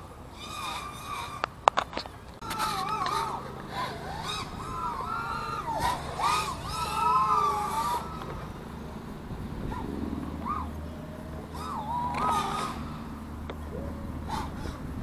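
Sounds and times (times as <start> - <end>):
low steady rumble: 0.0 - 15.0
quadcopter motors whining: 0.0 - 15.0.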